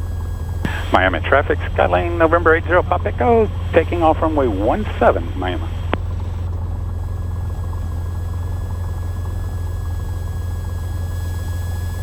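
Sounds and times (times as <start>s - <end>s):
aircraft engine droning: 0.0s - 12.0s
faint steady whine: 0.0s - 12.0s.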